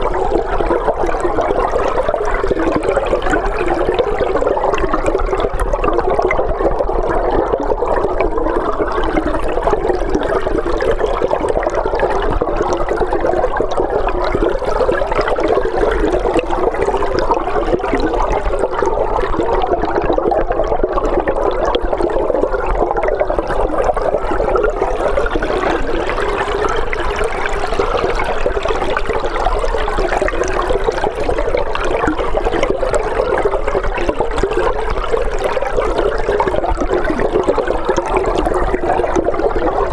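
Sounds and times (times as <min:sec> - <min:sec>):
underwater rushing river water: 0:00.0 - 0:39.9.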